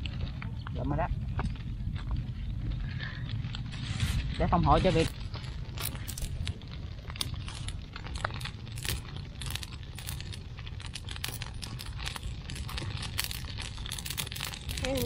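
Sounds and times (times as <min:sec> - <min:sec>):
burning leaves crackling and popping: 0:00.0 - 0:15.0
low fire rumble: 0:00.0 - 0:15.0.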